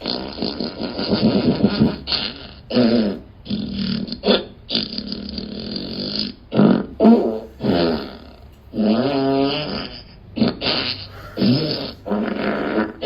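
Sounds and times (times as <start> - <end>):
fart sound effects: 0.0 - 13.0.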